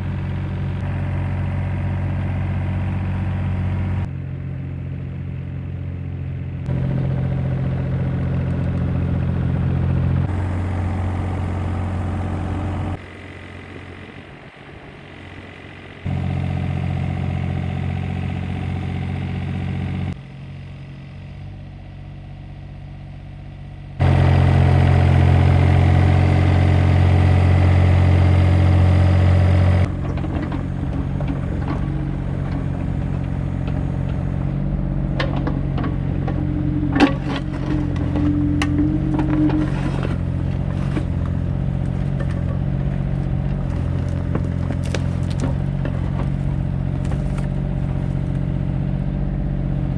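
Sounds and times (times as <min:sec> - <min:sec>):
excavator engine running: 0:00.0 - 0:20.2, 0:24.0 - 0:49.9.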